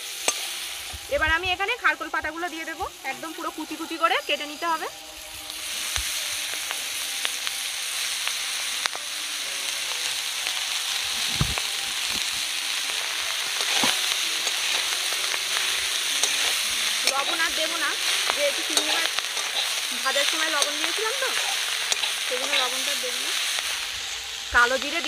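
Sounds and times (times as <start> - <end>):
leaves sizzling in hot oil: 0.0 - 25.0.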